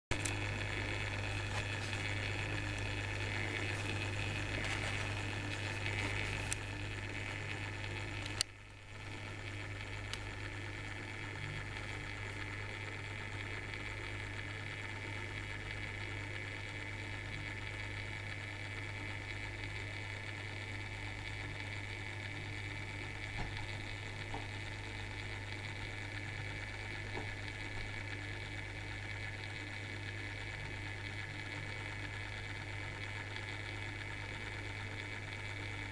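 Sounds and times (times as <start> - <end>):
small motor humming: 0.1 - 35.9.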